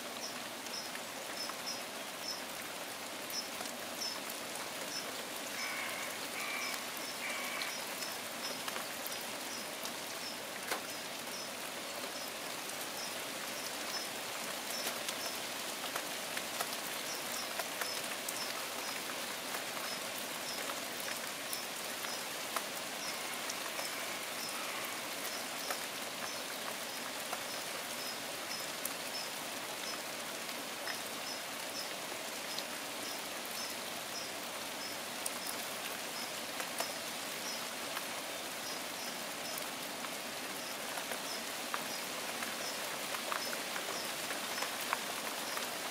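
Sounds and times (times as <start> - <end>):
rain falling on leaves: 0.0 - 45.9.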